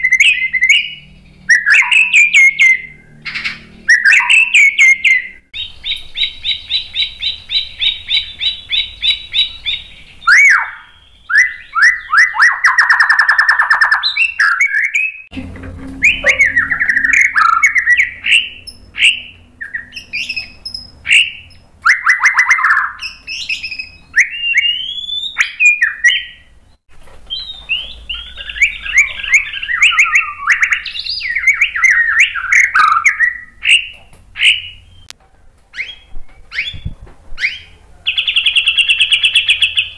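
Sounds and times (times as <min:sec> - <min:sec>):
bird singing varied whistled song: 0:00.0 - 0:15.3, 0:15.9 - 0:35.1, 0:35.8 - 0:39.9.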